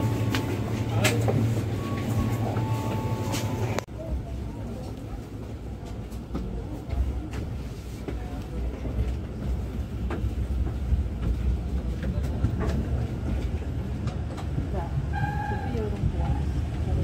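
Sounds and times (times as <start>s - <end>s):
train carriage low rumble: 0.0s - 17.0s.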